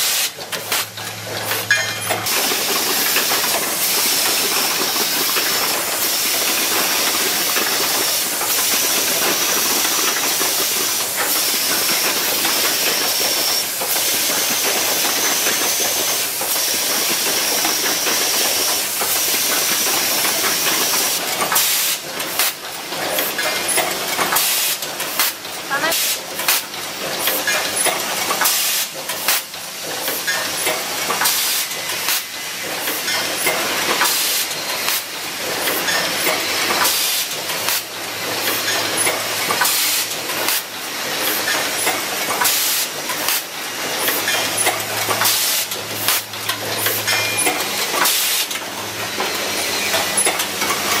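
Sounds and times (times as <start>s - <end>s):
pneumatic actuators clacking: 0.0s - 51.0s.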